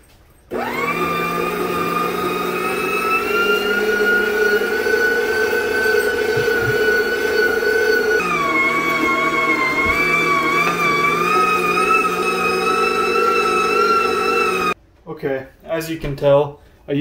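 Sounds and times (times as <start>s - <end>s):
electric meat grinder whining: 0.5s - 14.8s.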